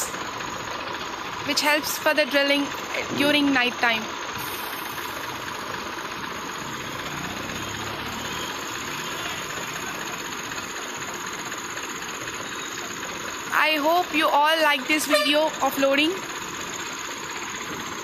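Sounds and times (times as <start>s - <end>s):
heavy diesel engine idling: 0.0s - 18.0s.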